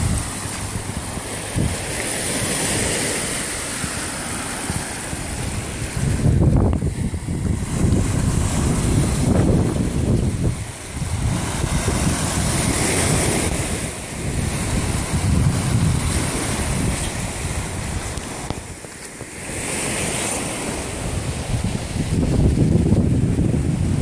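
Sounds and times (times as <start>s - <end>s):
waves washing on shore: 0.0s - 24.0s
wind buffeting microphone: 0.0s - 24.0s.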